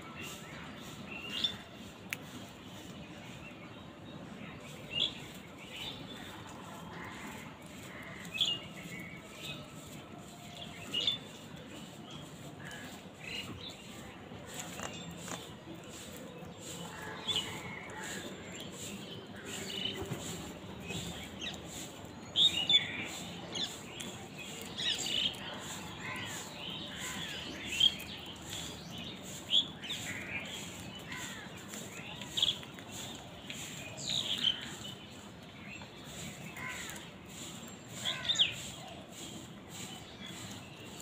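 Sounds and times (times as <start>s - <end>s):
birds chirping: 0.1s - 41.0s.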